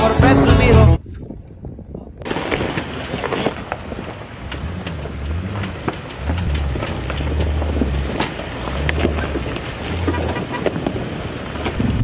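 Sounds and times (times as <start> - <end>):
car engine rumbling: 0.7 - 12.0
crackles and clicks: 2.2 - 12.0.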